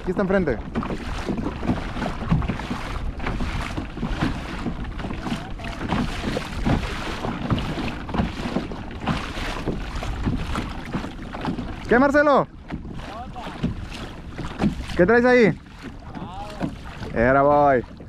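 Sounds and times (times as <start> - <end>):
water splashing against kayak: 0.0 - 18.0
wind buffeting microphone: 0.0 - 18.0.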